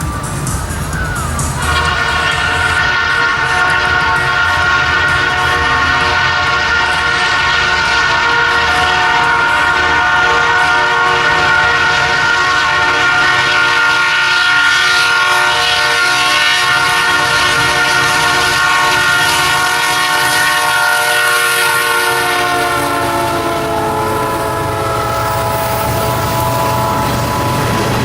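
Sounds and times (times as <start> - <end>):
locomotive engines rumbling: 0.0 - 28.0
locomotive horn blast: 0.0 - 28.0.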